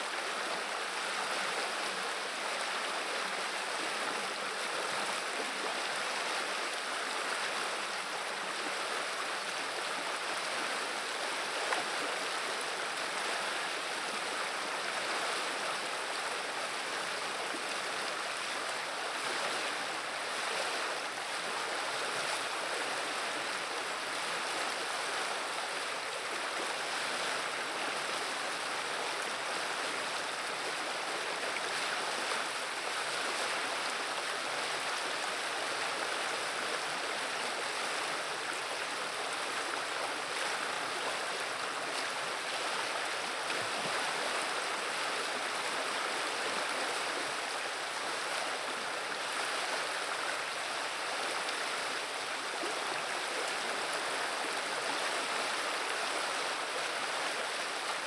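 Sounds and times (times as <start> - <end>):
river water burbling: 0.0 - 58.0.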